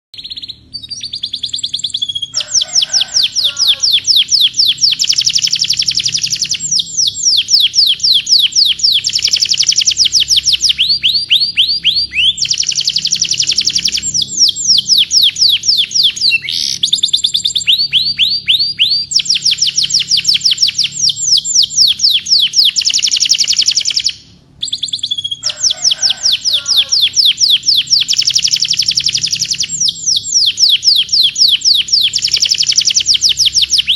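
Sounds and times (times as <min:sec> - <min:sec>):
canary singing trills: 0:00.2 - 0:33.9.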